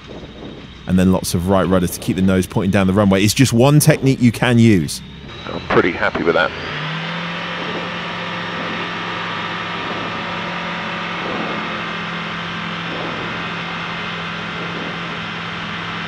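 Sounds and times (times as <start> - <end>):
microlight engine and propeller: 0.0 - 16.0.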